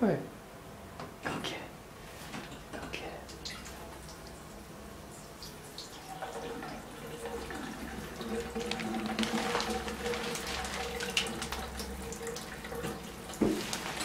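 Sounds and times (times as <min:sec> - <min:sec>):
tap water running into a tub: 0:02.3 - 0:14.0.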